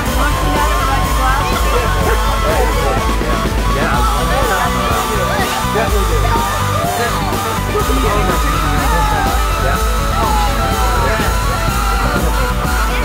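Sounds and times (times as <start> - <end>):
held high rising tone: 0.0 - 13.0
rock music: 0.0 - 13.0.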